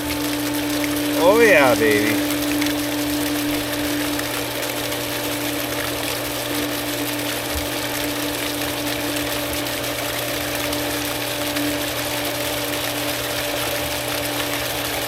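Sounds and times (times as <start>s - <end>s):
pump electric hum: 0.0s - 15.0s
rushing water: 0.0s - 15.0s.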